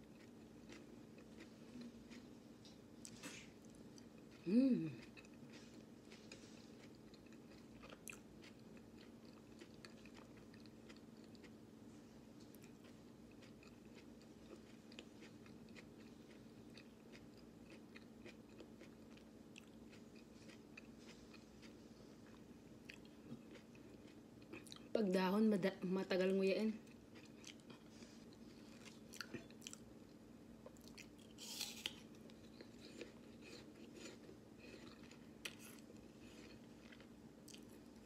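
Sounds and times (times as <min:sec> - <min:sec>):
faint chewing crunches: 0:00.0 - 0:25.0, 0:26.7 - 0:38.0
low room hum: 0:00.0 - 0:38.0.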